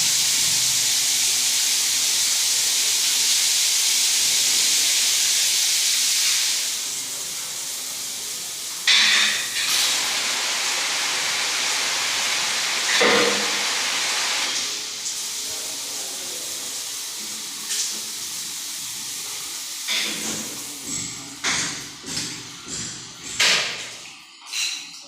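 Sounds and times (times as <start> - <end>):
water running hard from tap: 0.0 - 25.0.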